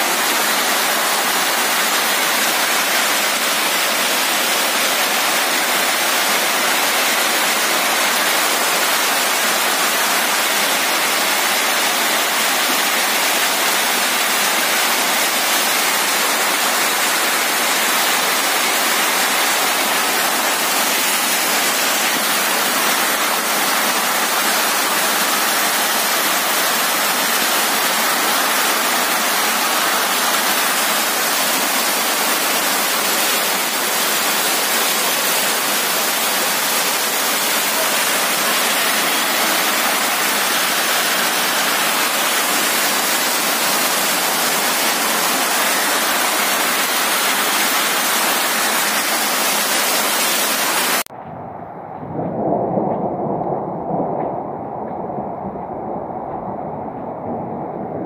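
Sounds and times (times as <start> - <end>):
hail and rain on pavement: 0.0 - 51.1.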